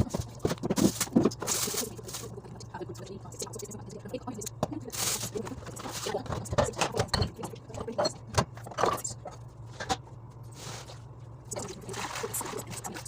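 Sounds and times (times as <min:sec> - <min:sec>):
items and shelves clattering: 0:00.0 - 0:02.6, 0:04.6 - 0:13.0
steady low hum: 0:00.0 - 0:13.0.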